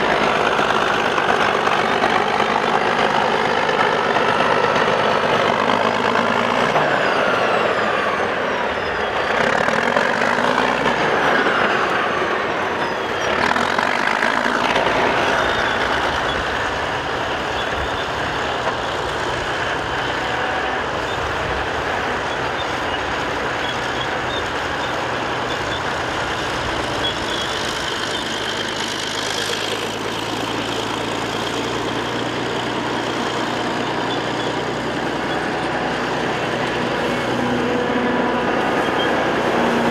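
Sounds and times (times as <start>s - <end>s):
bulldozer running: 0.0s - 39.9s.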